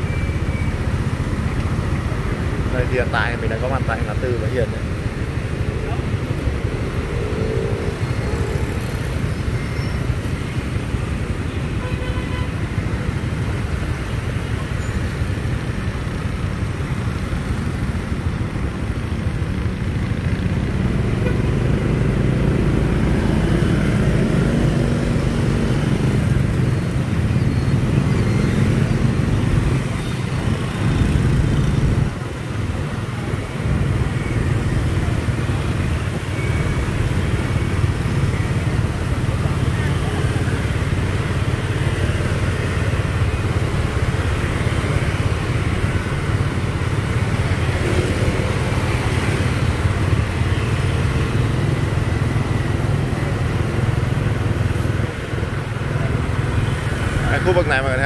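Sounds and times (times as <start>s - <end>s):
motorbike and car engines passing: 0.0s - 11.7s, 12.6s - 58.0s.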